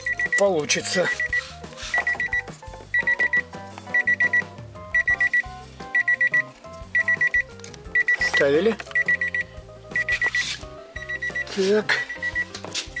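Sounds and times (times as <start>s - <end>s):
electronic music with melody and bass: 0.0s - 13.0s
high electronic beeps: 0.0s - 13.0s.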